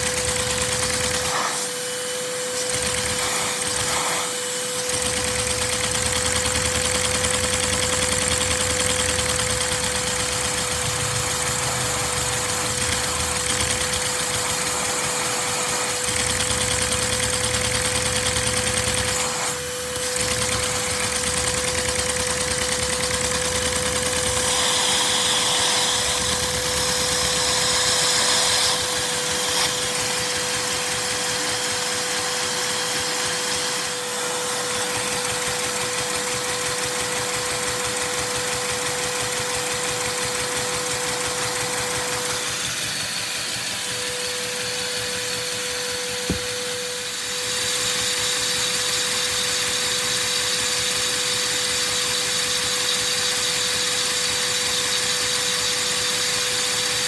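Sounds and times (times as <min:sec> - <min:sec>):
vacuum cleaner drone: 0:00.0 - 0:57.0.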